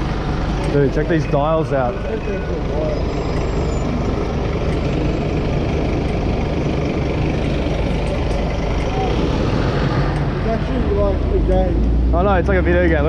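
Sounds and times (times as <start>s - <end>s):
city street traffic rumble: 0.0s - 13.0s
heavy vehicle engine idling: 0.0s - 13.0s.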